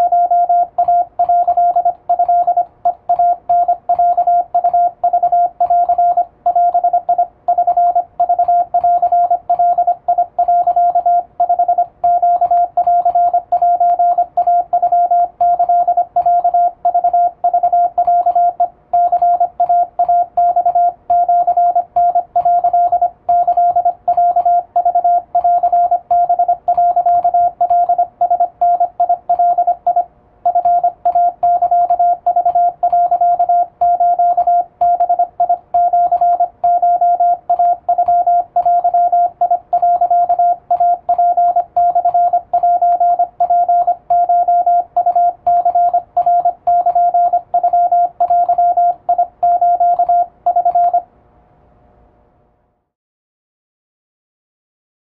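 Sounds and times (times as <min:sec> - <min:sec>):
morse code tone: 0:00.0 - 0:51.0.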